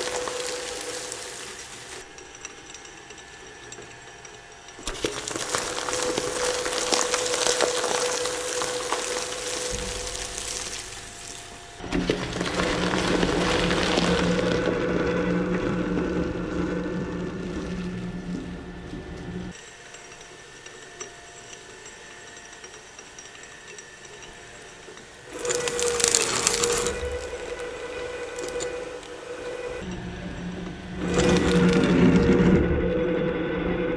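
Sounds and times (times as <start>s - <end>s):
shredder motor whine: 0.0s - 2.0s, 4.8s - 19.8s, 23.5s - 33.8s
shredder crunching and grinding: 0.0s - 3.7s, 4.8s - 17.6s, 19.6s - 29.9s, 30.9s - 32.6s.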